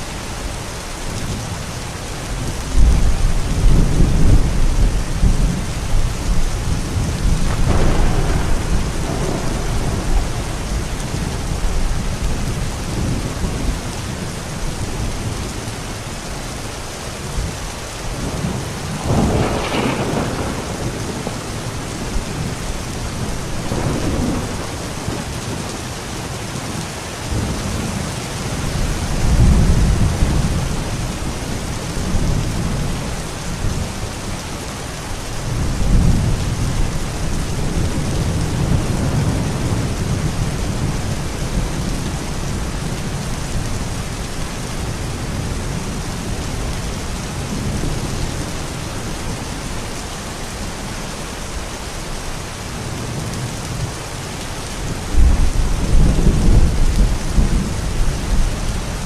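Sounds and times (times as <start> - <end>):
steady rain: 0.0 - 59.0
thunder rumbling: 2.3 - 16.2, 17.3 - 50.9, 52.4 - 59.0.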